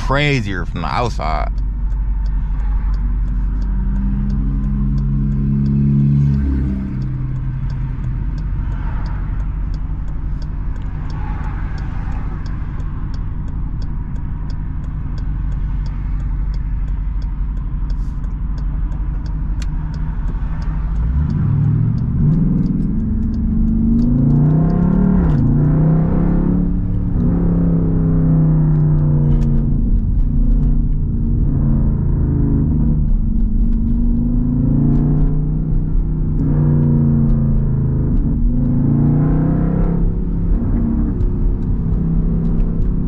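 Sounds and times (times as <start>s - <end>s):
car exhaust drone and revving: 0.0s - 43.0s.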